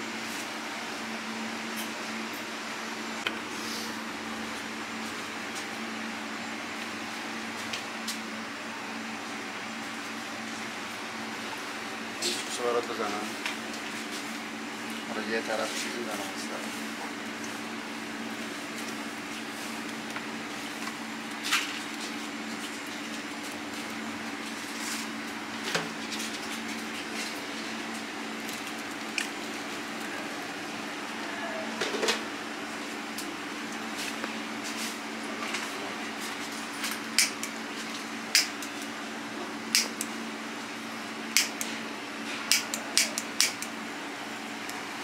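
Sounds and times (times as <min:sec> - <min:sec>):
low mechanical hum: 0:00.0 - 0:45.0.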